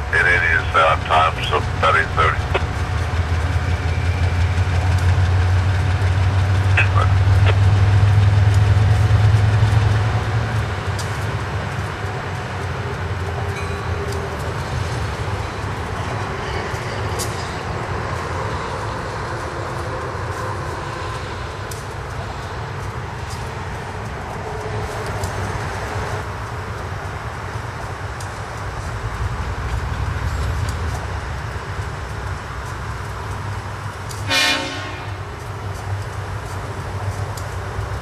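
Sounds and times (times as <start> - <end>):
diesel locomotive engine rumbling: 0.0 - 38.0.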